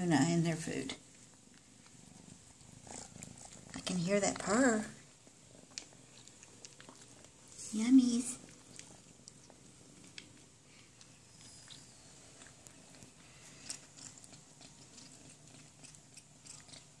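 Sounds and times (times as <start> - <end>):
kittens crunching dry kibble: 0.9 - 17.0.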